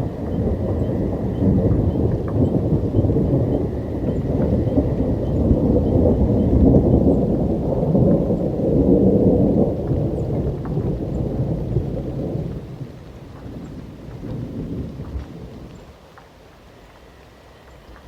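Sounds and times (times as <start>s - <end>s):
rolling thunder: 0.0s - 15.8s
light rain: 0.0s - 18.0s.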